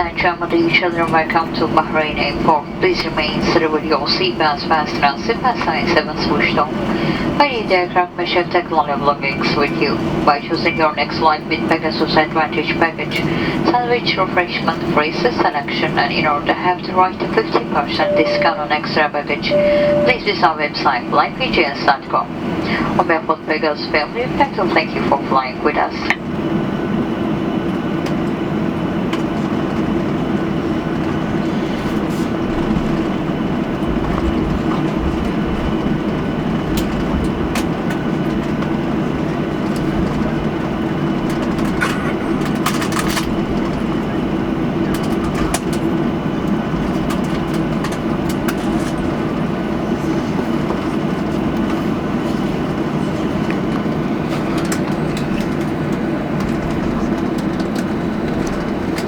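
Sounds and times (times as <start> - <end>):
aircraft engines humming: 0.0 - 59.0.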